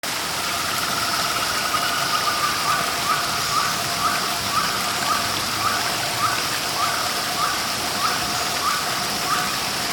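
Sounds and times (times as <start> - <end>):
waterfall rushing: 0.1 - 9.9.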